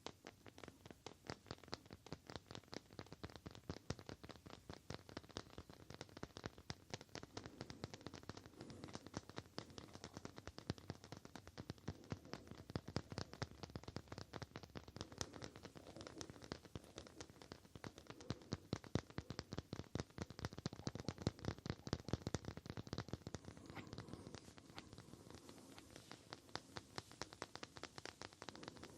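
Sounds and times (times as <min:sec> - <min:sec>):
fingers tapping rapidly: 0:00.0 - 0:28.9.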